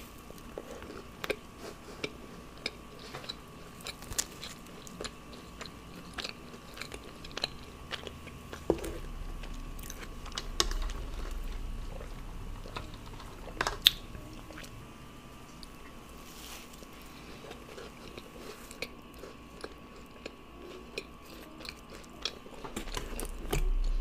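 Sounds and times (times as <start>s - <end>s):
faint steady hum: 0.0s - 24.0s
chewing cookie: 0.2s - 14.8s, 15.5s - 24.0s.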